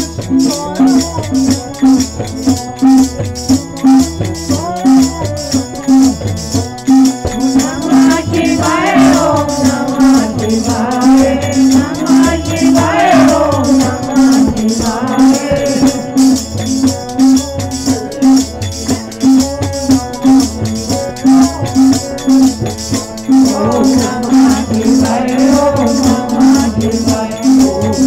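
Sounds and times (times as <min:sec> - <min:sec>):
man singing: 0:00.0 - 0:22.3, 0:23.3 - 0:28.0
fast rattling percussion: 0:00.0 - 0:28.0
harmonium chords: 0:00.0 - 0:28.0
low drum beat: 0:00.0 - 0:28.0.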